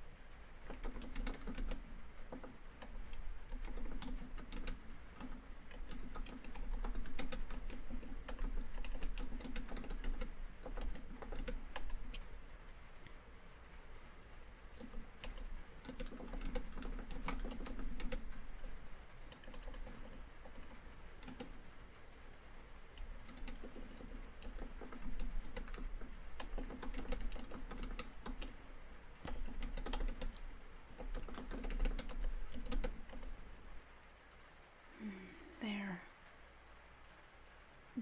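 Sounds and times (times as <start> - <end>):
laptop keyboard typing: 0.0 - 33.8.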